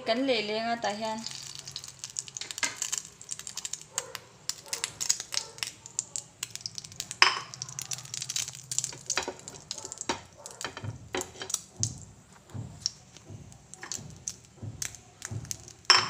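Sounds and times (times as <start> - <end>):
oil crackling and spitting in pan: 0.8 - 16.0.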